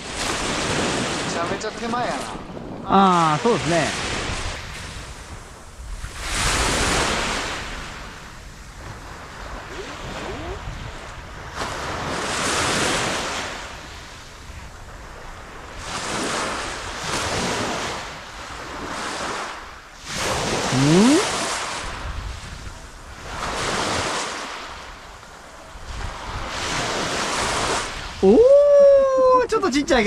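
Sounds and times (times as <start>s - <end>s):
waves washing on pebble shore: 0.0s - 28.8s.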